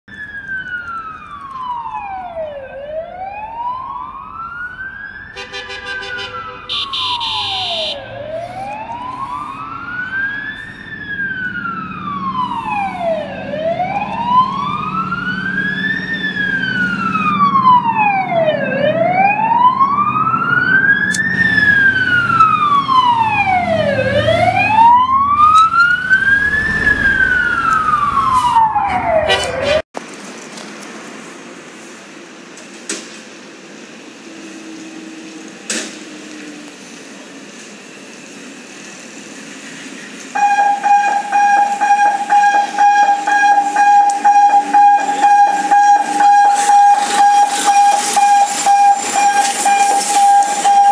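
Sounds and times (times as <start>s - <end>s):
sirens wailing: 0.1s - 29.9s, 33.9s - 50.9s
truck diesel engines rumbling: 0.1s - 50.9s.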